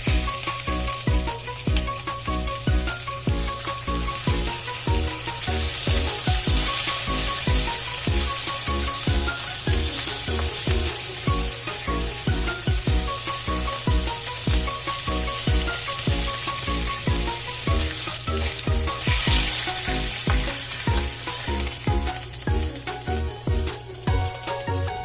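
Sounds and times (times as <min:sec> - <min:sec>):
background music with drum beat: 0:00.0 - 0:25.0
food sizzling in a pan: 0:00.0 - 0:25.0.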